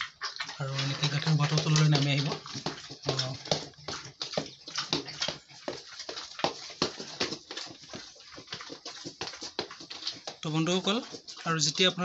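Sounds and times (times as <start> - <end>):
pig grunting and snuffling: 0.0 - 12.0.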